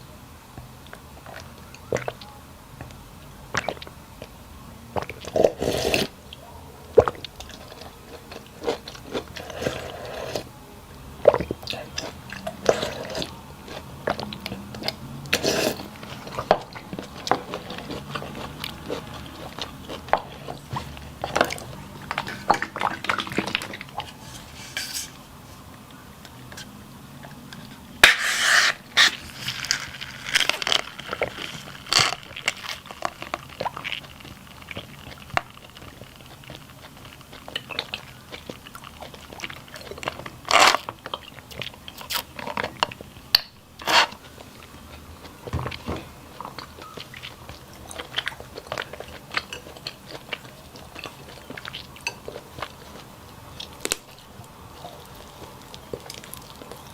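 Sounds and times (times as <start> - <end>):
close chewing and crunching: 0.7 - 24.7, 25.8 - 56.9.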